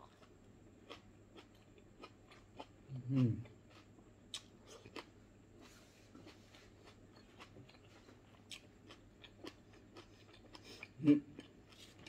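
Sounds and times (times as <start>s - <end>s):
quiet room hum: 0.0s - 12.0s.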